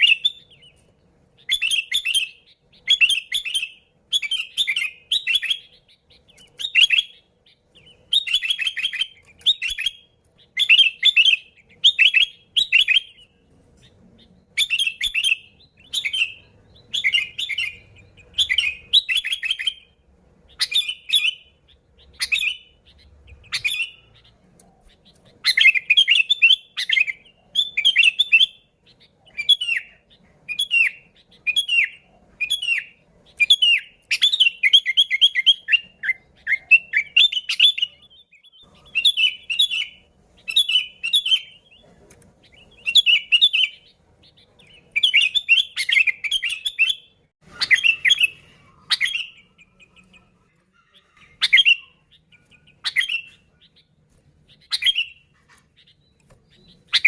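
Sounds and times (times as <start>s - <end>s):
bird singing whistled notes: 0.0s - 41.8s, 42.4s - 57.0s.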